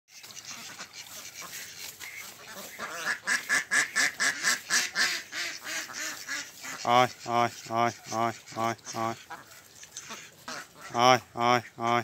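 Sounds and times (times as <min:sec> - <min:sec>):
ducks quacking: 0:00.1 - 0:12.0.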